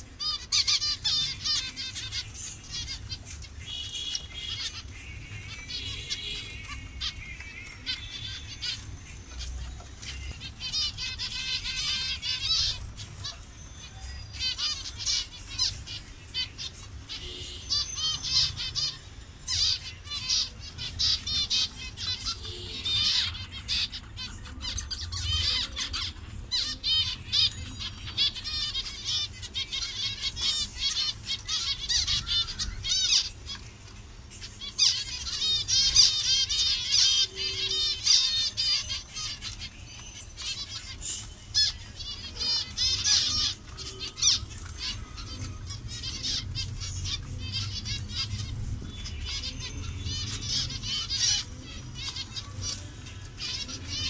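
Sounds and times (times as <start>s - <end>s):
finches calling: 0.0s - 54.0s.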